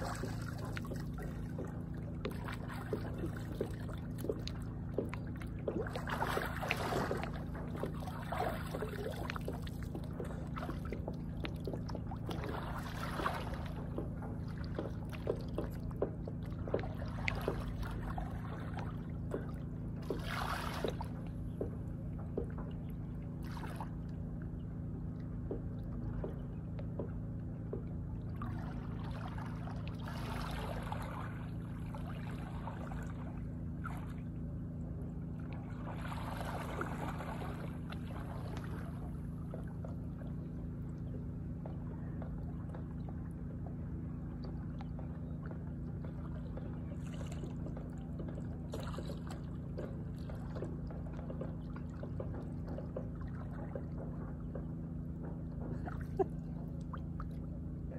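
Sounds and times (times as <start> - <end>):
low mechanical hum: 0.0 - 57.9
water splashing and lapping: 0.0 - 57.9.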